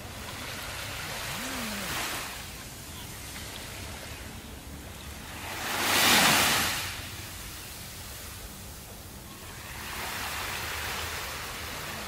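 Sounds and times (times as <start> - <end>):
small waves lapping on sand: 0.0 - 12.0.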